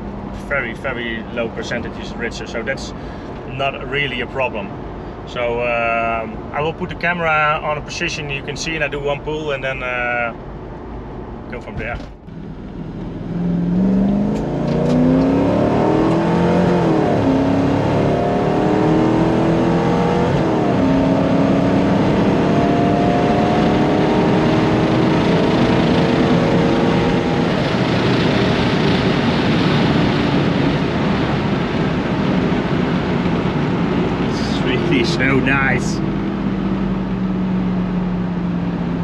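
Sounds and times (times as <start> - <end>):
car engine at full throttle: 0.0 - 6.6, 9.4 - 39.0.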